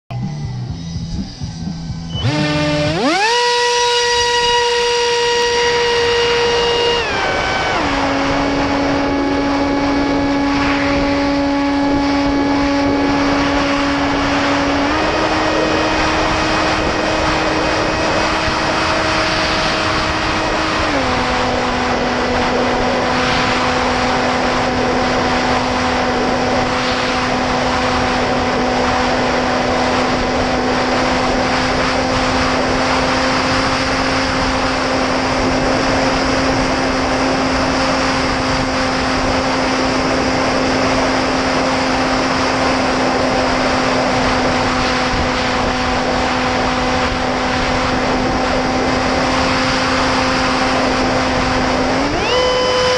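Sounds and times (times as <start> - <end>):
electric motor and propeller whine: 0.1 - 52.9
wind rushing over microphone: 0.2 - 52.9.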